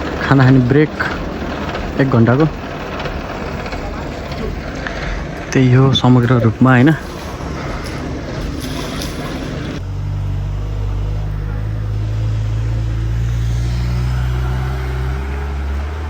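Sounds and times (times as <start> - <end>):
heavy engine running: 0.0 - 16.0
open-air noise: 0.0 - 16.0.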